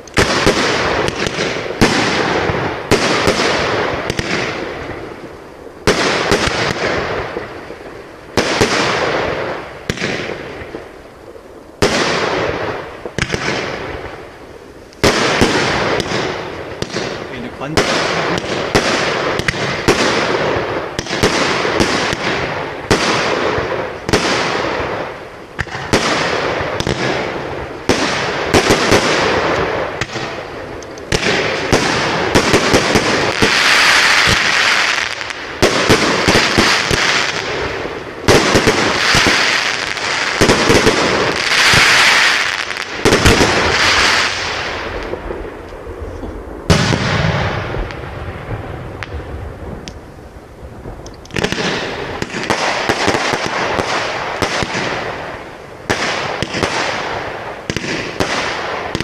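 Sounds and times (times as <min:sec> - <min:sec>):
fireworks bangs: 0:00.0 - 0:59.0
fireworks crackling hiss: 0:00.0 - 0:59.0.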